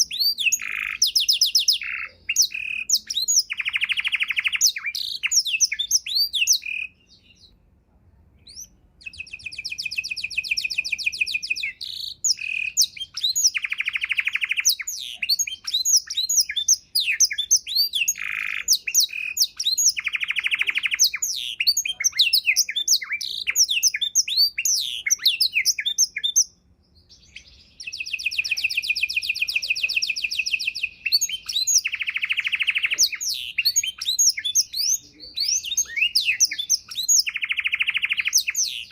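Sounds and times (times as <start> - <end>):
canary singing: 0.0 - 7.6, 8.4 - 38.9.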